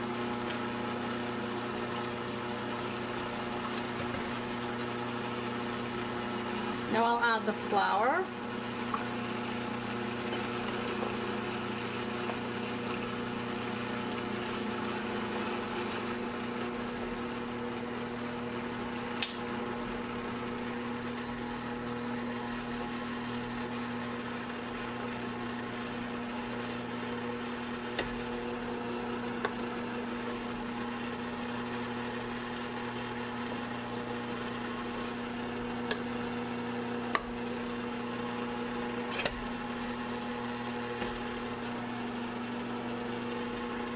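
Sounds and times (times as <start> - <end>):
stand mixer motor running: 0.0 - 43.9.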